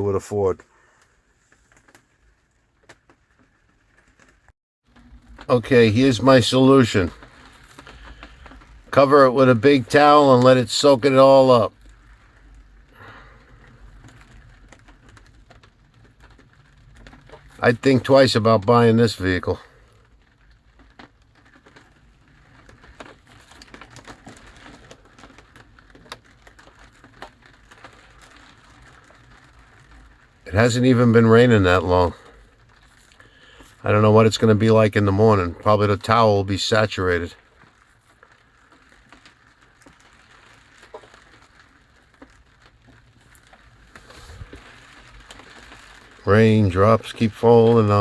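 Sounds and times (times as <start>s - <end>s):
rain taps and drips: 0.0s - 48.0s.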